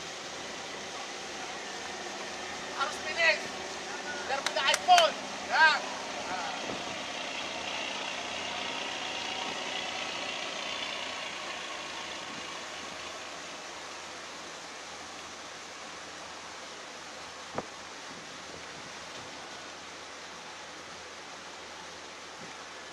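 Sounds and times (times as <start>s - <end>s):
boat engine running: 0.0s - 22.7s
boat wake churning water: 0.0s - 22.9s.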